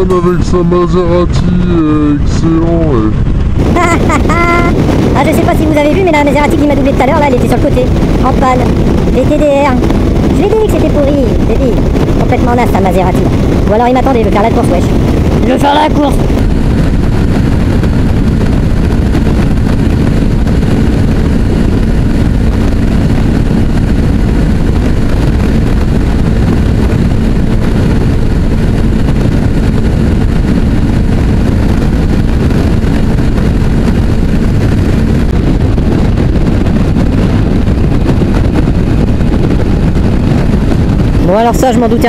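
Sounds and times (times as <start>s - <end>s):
motorcycle engine cruising: 0.0s - 42.0s
wind and road noise: 0.0s - 42.0s.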